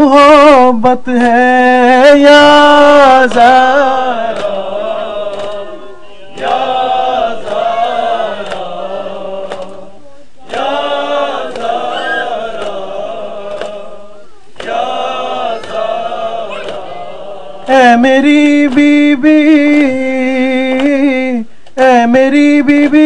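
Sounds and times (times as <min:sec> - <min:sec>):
men chanting a lament: 0:00.0 - 0:23.0.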